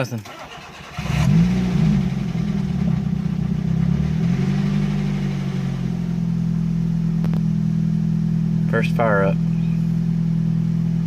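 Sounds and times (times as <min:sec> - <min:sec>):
car engine idling: 0:00.3 - 0:11.0.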